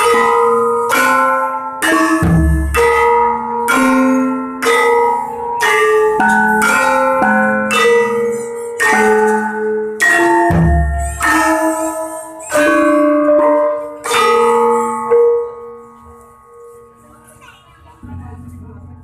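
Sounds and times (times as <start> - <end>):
gamelan playing: 0.0 - 17.4.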